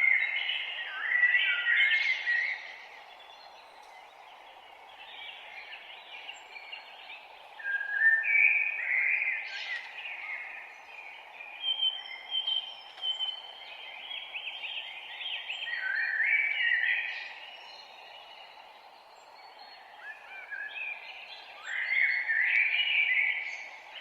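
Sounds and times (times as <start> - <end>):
low background hiss: 0.0 - 24.0
songbirds singing: 0.0 - 24.0.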